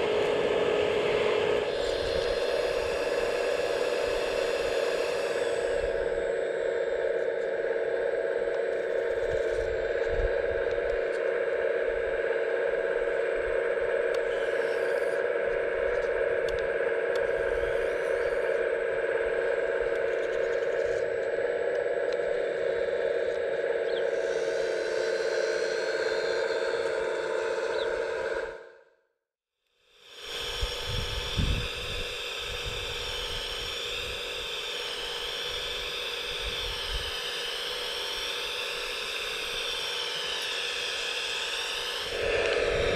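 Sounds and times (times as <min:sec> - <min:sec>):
hydraulic pump whine: 0:00.0 - 0:29.0, 0:29.9 - 0:42.9.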